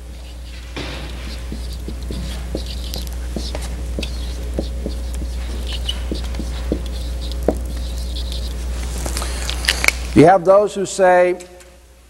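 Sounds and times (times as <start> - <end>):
marker squeaking on whiteboard: 0.0 - 9.9.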